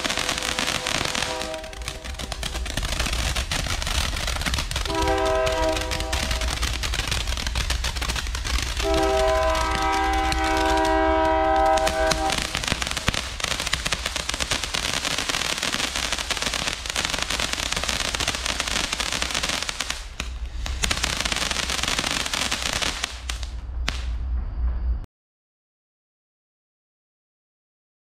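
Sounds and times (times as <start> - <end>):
firework fountain hissing and crackling: 0.0 - 24.2.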